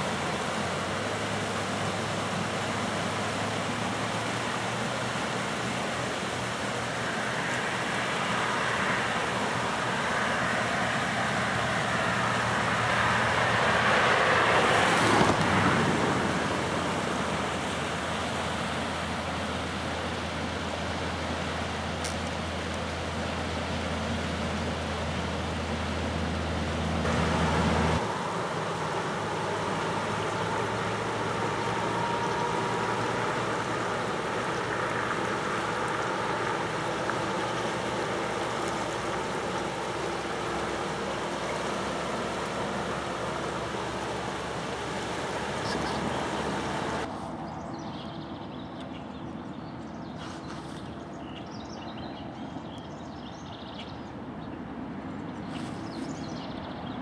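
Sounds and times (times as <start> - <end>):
rushing floodwater: 0.0 - 47.7
wind: 0.0 - 57.0.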